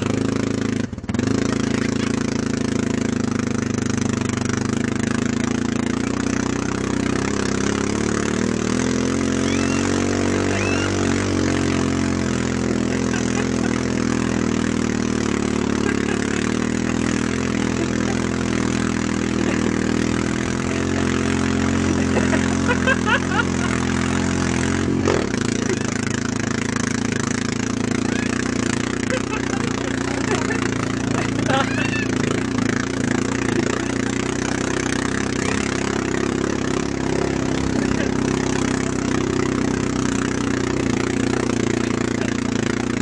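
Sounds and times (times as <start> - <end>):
snowmobile engine running: 0.0 - 43.0.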